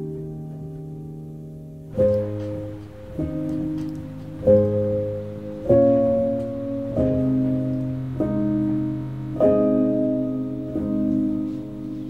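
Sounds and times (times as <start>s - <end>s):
calm solo piano music: 0.0s - 12.0s.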